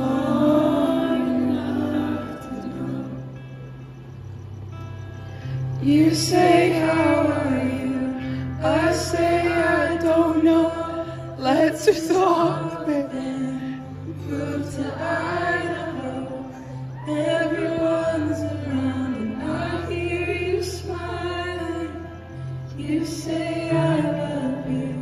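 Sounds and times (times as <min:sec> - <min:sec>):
woman singing into a microphone: 0:00.0 - 0:03.5, 0:05.8 - 0:25.0
sustained low accompaniment: 0:00.0 - 0:25.0.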